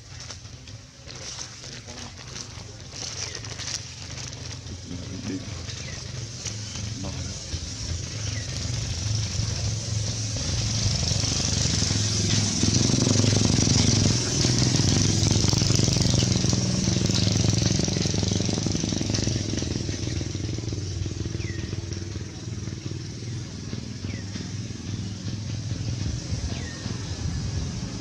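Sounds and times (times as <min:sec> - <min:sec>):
steady high hiss: 0:00.0 - 0:28.0
vehicle engine running: 0:00.0 - 0:28.0.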